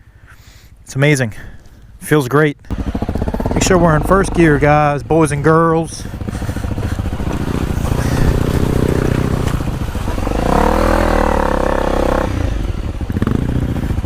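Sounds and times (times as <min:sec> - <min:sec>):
motorcycle engine revving: 0:02.7 - 0:14.0.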